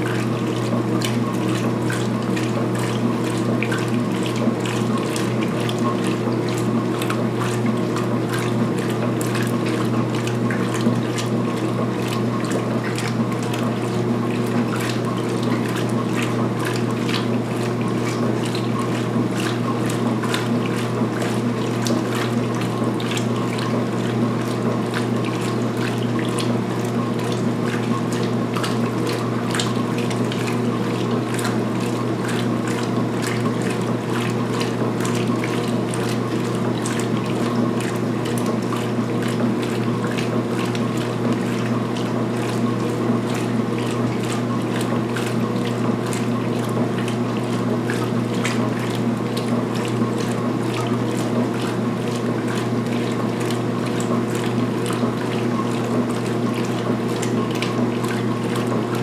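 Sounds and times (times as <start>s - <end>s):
washing machine motor hum: 0.0s - 59.0s
water sloshing: 0.0s - 59.0s.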